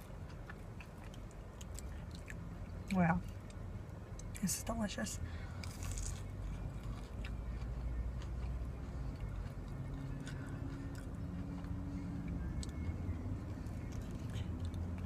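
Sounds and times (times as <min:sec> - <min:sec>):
faint chewing: 0:00.0 - 0:04.5, 0:05.5 - 0:15.0
steady low hum: 0:00.0 - 0:15.0.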